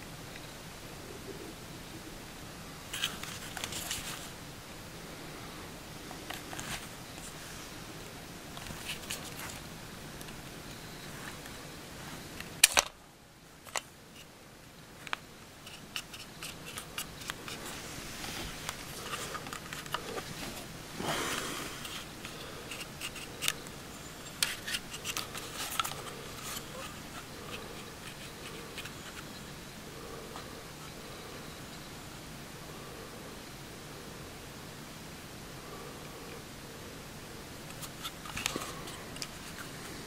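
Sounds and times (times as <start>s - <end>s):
rustle: 0.0s - 12.8s, 13.5s - 40.0s.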